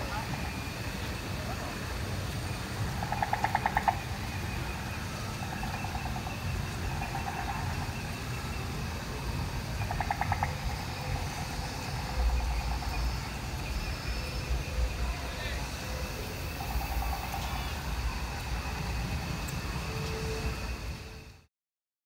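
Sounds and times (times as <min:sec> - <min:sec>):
high insect drone: 0:00.0 - 0:21.5.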